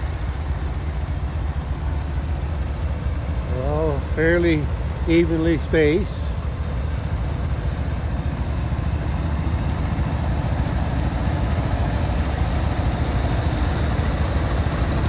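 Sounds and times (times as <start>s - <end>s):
garden tractor engines idling: 0.0s - 15.0s.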